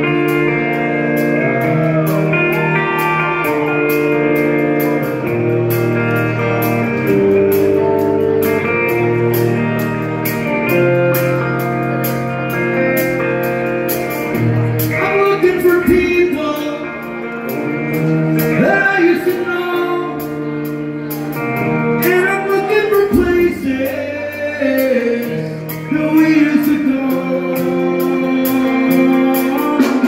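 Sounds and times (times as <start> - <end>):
bass guitar: 0.0 - 30.0
drums: 0.0 - 30.0
electric guitar: 0.0 - 30.0.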